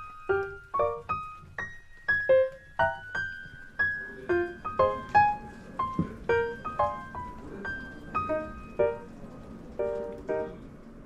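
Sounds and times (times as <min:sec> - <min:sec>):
light piano melody: 0:00.0 - 0:11.0.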